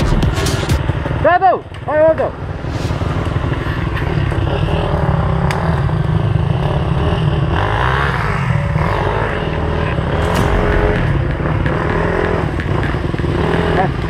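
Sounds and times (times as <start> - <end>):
dirt bike engines running: 0.8 - 14.0.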